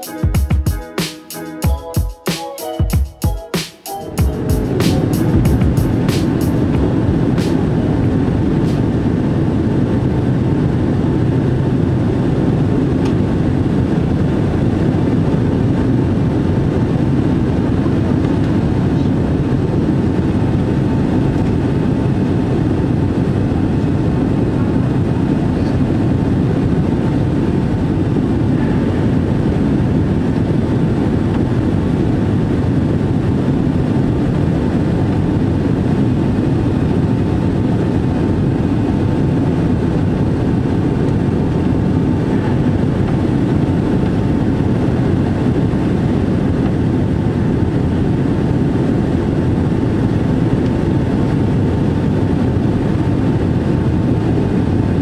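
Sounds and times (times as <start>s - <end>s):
airplane cabin roar: 3.3s - 55.0s.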